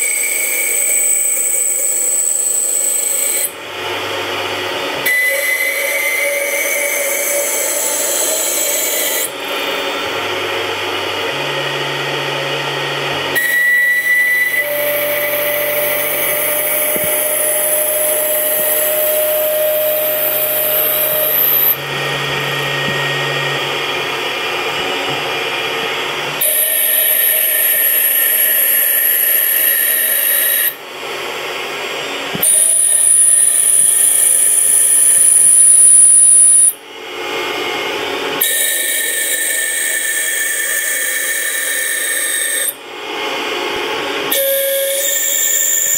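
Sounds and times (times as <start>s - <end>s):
mill spindle whine: 0.0s - 45.9s.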